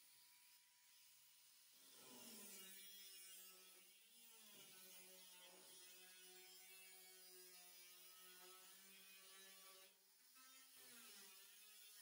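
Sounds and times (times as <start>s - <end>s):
angle grinder cutting steel: 1.8s - 12.0s.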